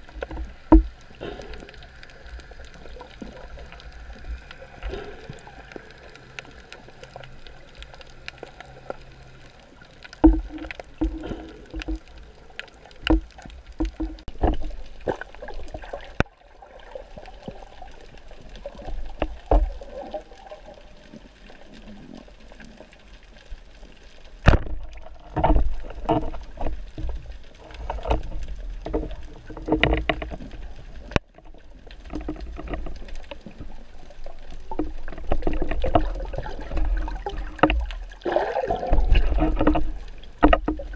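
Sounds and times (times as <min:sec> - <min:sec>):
water sloshing underwater: 0:00.0 - 0:40.9.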